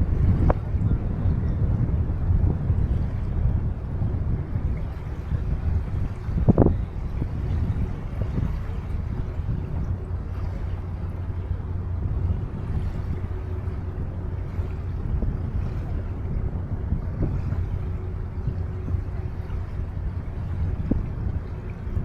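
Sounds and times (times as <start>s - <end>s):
faint constant hum: 0.0s - 22.0s
wind and water rumble: 0.0s - 22.0s.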